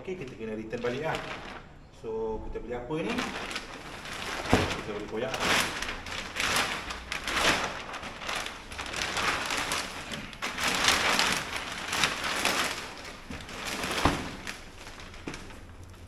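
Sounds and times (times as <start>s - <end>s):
plastic bag crinkling and tearing: 0.0s - 1.8s, 3.0s - 16.0s.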